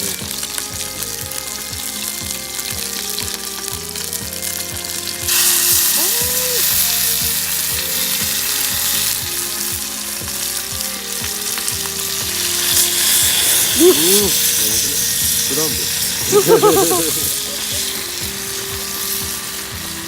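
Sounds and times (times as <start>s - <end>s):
patties sizzling in a pan: 0.0s - 20.0s.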